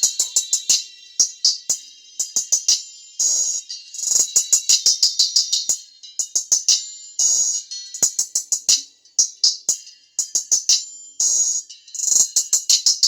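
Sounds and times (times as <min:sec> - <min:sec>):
drum machine hi-hat ticks: 0:00.0 - 0:13.0.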